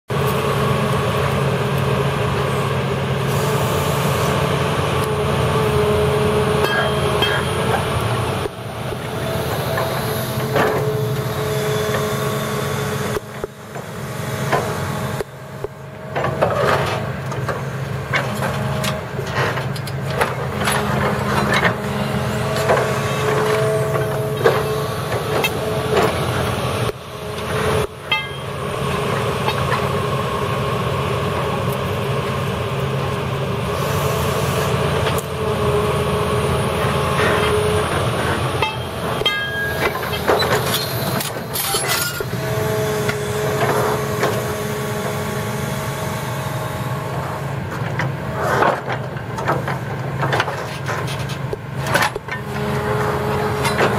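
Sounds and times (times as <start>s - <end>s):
excavator engine running: 0.1s - 53.9s
hydraulic whine: 2.5s - 31.9s, 33.6s - 48.9s.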